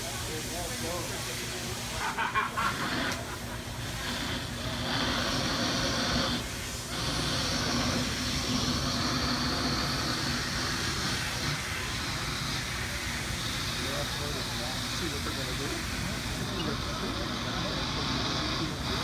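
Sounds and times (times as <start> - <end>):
fire hoses spraying water: 0.0 - 19.0.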